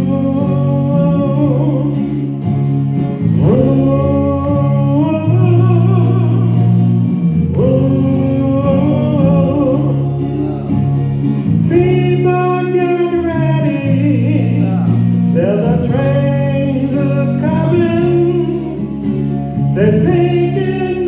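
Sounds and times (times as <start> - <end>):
man singing long held notes: 0.0 - 2.3, 3.2 - 6.8, 7.4 - 19.0, 19.7 - 21.0
guitar accompaniment: 0.0 - 21.0.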